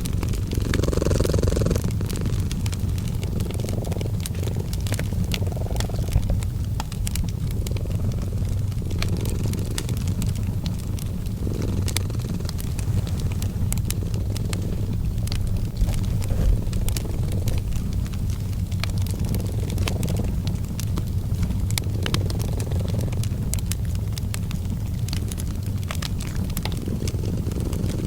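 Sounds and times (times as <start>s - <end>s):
cat purring: 0.0s - 28.0s
wood fire crackling: 0.0s - 28.0s.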